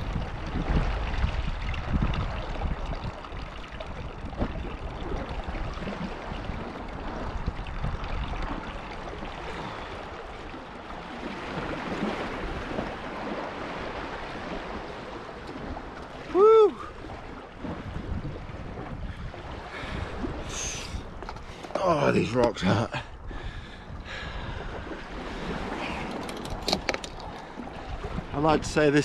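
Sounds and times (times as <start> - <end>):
sea water washing among rocks: 0.0 - 22.9, 23.9 - 29.0.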